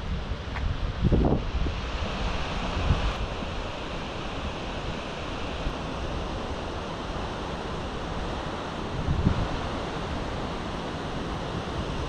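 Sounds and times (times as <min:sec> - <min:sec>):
wind buffeting microphone: 0:00.0 - 0:07.2, 0:08.0 - 0:12.0
waterfall roaring: 0:01.7 - 0:12.0.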